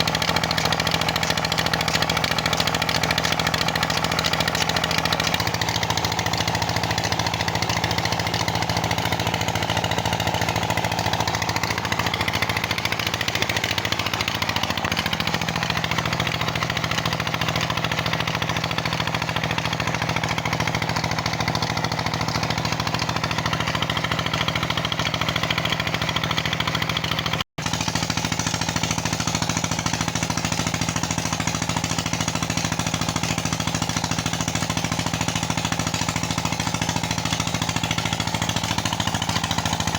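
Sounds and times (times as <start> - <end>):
diesel pump engine knocking: 0.0 - 39.9.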